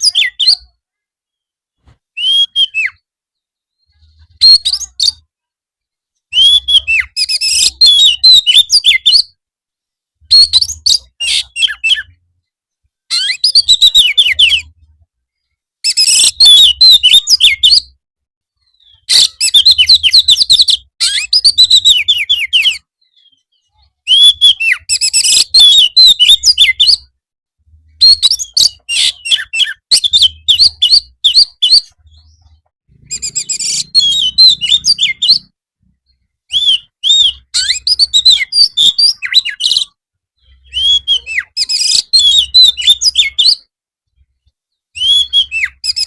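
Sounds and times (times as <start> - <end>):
bird singing whistled notes: 0.0 - 1.5, 2.2 - 5.2, 6.3 - 9.4, 10.2 - 12.2, 13.1 - 14.9, 15.8 - 18.0, 18.6 - 27.1, 27.7 - 43.7, 44.8 - 46.0.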